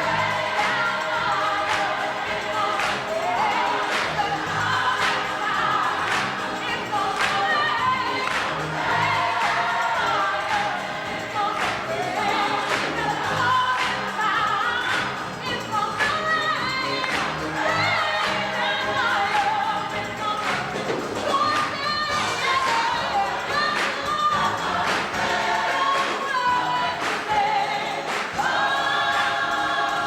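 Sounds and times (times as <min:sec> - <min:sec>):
gospel choir singing: 0:00.0 - 0:30.0.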